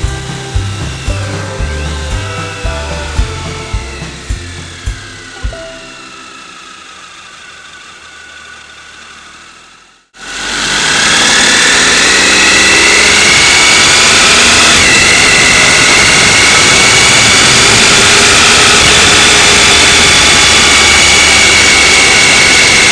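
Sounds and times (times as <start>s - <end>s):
motorcycle engine accelerating: 0.0s - 9.0s, 10.2s - 22.9s.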